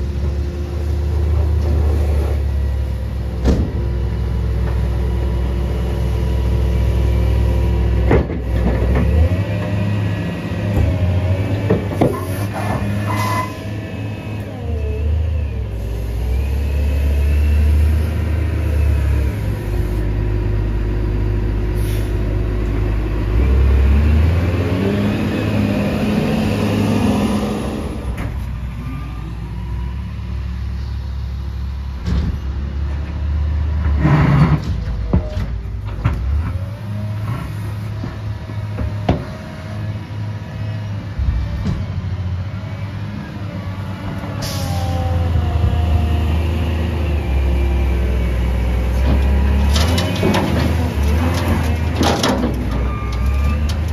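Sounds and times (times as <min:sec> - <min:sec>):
diesel engine revving: 0:00.0 - 0:35.2, 0:35.8 - 0:53.9.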